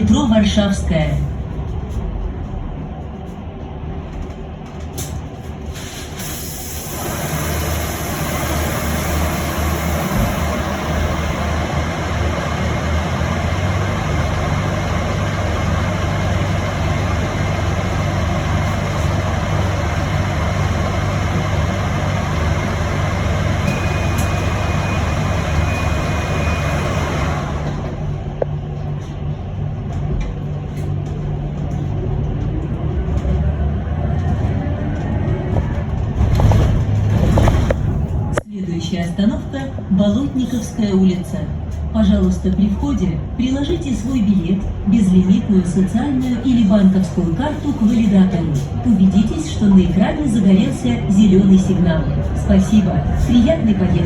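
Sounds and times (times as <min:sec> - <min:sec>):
low bus hum: 0:00.0 - 0:54.0
street noise rush: 0:00.0 - 0:54.0.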